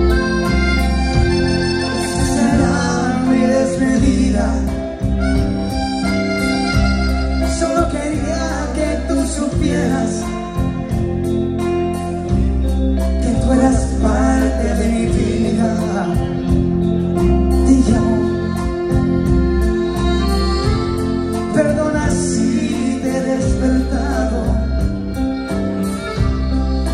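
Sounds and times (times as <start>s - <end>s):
accordion: 0.0s - 26.9s
drums: 0.0s - 26.9s
guitars: 0.0s - 26.9s
person singing: 1.9s - 6.1s, 7.4s - 11.4s, 13.0s - 26.9s.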